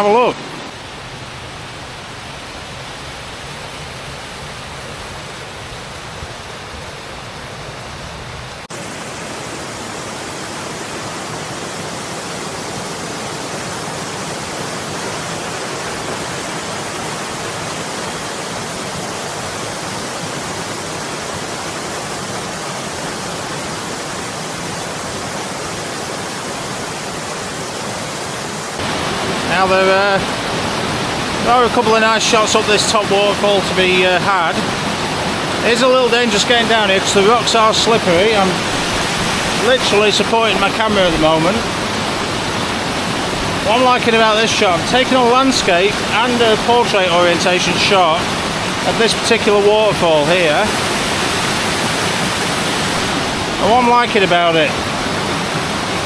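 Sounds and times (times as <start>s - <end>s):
waterfall and stream rushing: 0.0s - 56.0s.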